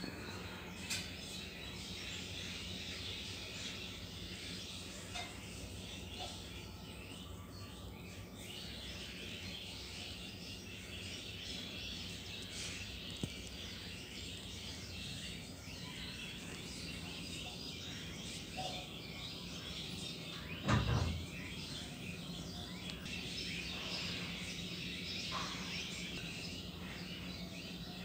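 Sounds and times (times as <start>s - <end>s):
birds chirping and twittering: 0.0s - 28.0s.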